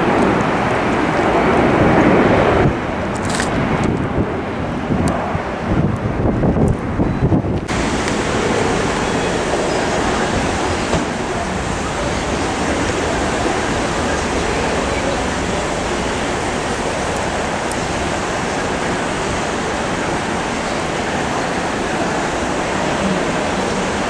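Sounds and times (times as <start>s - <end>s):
distant jet engines landing: 0.0s - 24.0s.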